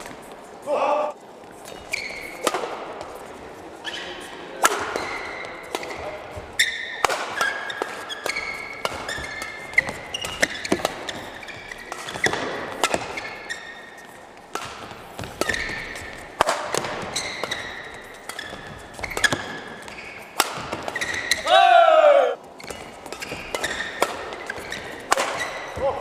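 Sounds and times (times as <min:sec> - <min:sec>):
shoes squeaking on floor: 0:01.5 - 0:21.6, 0:22.4 - 0:26.0
rackets hitting shuttlecock: 0:01.6 - 0:03.2, 0:03.9 - 0:26.0.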